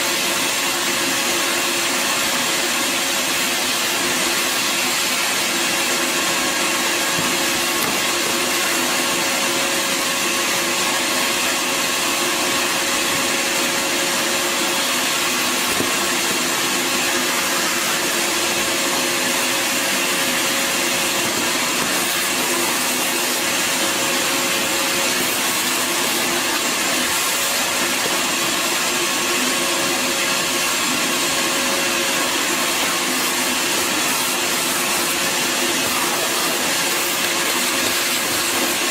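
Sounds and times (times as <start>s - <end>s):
wet dry vacuum running: 0.0s - 38.9s.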